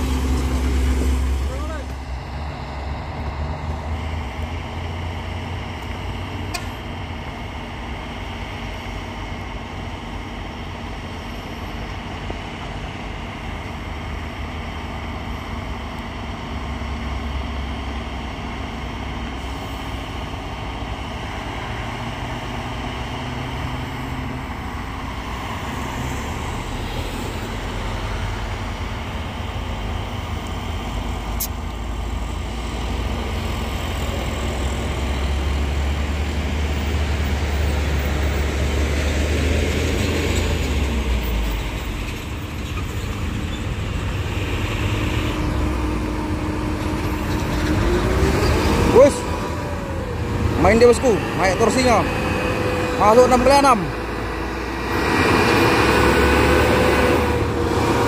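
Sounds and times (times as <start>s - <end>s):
truck diesel engine under load: 0.0s - 58.0s.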